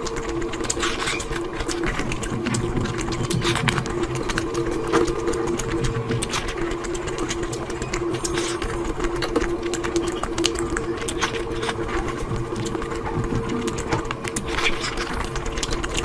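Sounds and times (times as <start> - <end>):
chewing and mouth smacks: 0.0 - 16.0
steady machine hum: 0.0 - 16.0.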